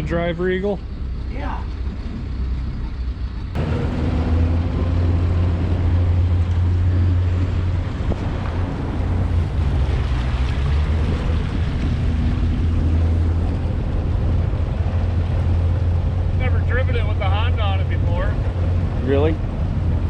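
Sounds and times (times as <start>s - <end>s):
outboard motor running: 0.0s - 20.0s
wind noise on microphone: 0.8s - 20.0s.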